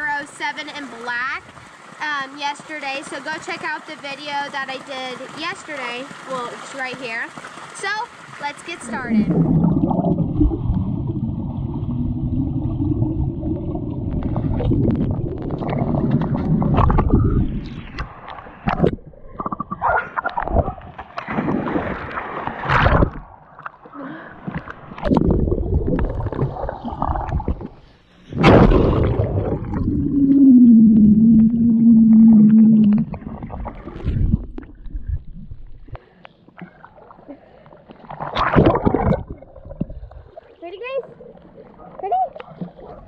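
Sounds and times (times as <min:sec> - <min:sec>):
muffled underwater splashing and bubbling: 0:00.0 - 0:43.0
water sloshing and gurgling: 0:00.0 - 0:43.0.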